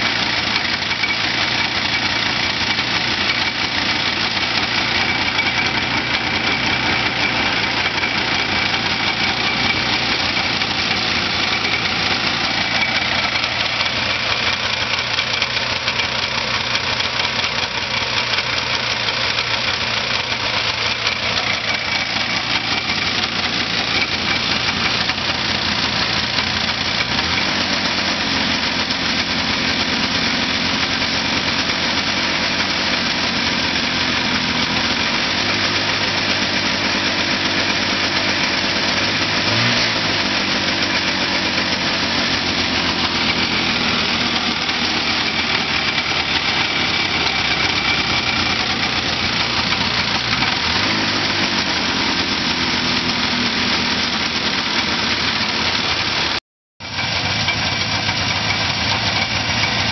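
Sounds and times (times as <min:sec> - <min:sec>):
snowmobile engine idling: 0:00.0 - 0:59.9.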